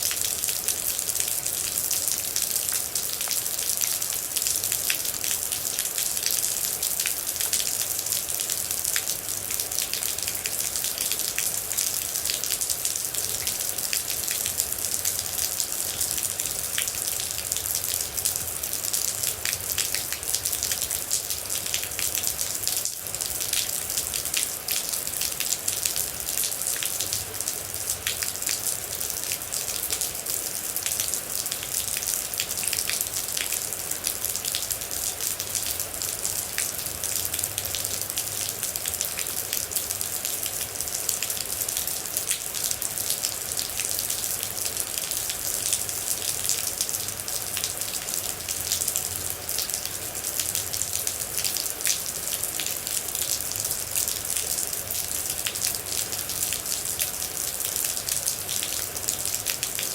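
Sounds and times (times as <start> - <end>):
raindrops striking a surface: 0.0 - 59.9
steady rain: 0.0 - 59.9.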